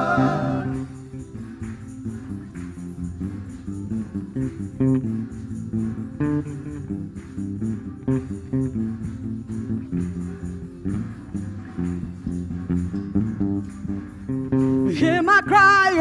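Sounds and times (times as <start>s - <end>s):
electric bass: 0.0s - 16.0s
guitar chords: 0.0s - 16.0s.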